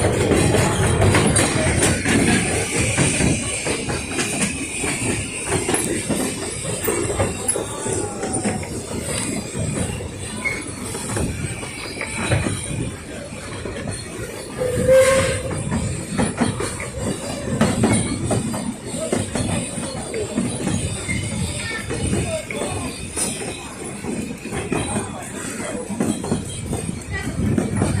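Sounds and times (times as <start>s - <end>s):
train wheels clattering: 0.0s - 28.0s.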